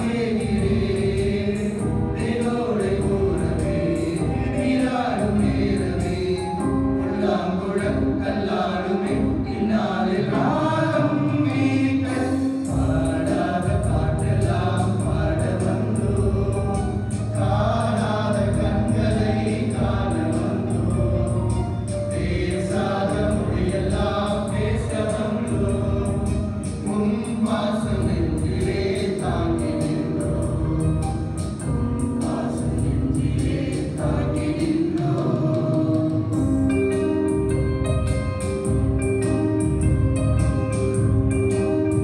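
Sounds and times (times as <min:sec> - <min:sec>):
keyboard guitar and drums: 0:00.0 - 0:09.8, 0:12.5 - 0:42.0
male choir singing: 0:00.0 - 0:36.9.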